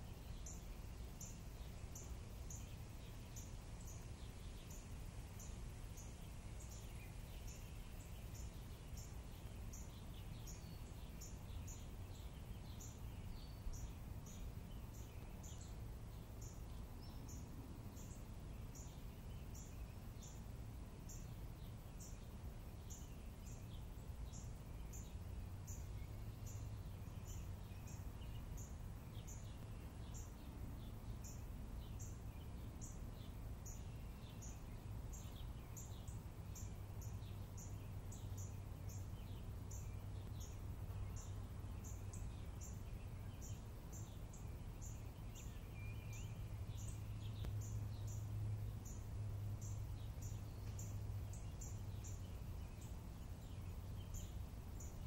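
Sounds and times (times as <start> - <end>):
low steady rumble: 0.0 - 55.0.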